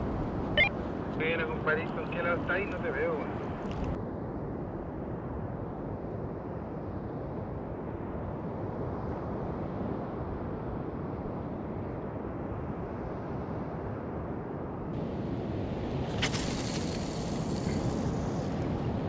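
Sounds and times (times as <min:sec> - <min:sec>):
wind noise on microphone: 0:03.3 - 0:19.0.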